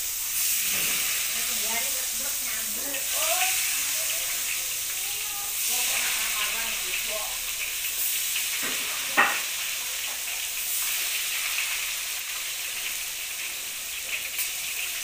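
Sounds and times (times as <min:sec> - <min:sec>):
deep-frying sizzle in oil: 0:00.0 - 0:15.0.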